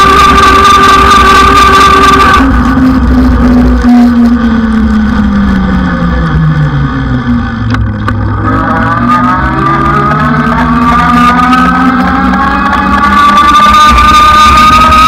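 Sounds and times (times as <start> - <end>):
motor hum changing pitch: 0.0 - 15.0.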